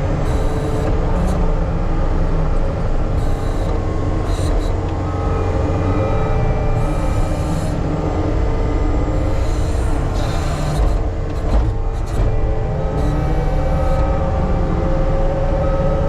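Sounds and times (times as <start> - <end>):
whining tone: 0.0 - 16.0.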